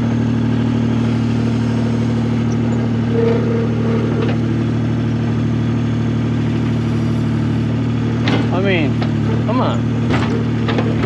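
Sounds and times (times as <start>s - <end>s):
skid steer engine idling: 0.0s - 11.0s.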